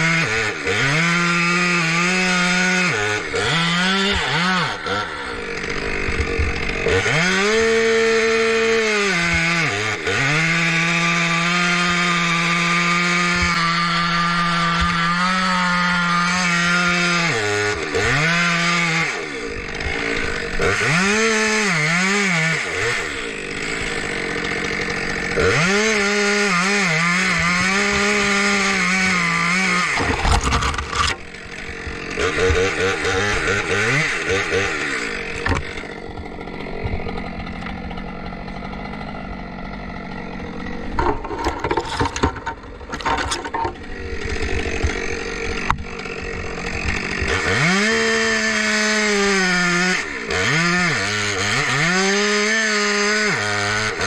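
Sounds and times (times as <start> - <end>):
chainsaw revving and cutting: 0.0 - 54.0.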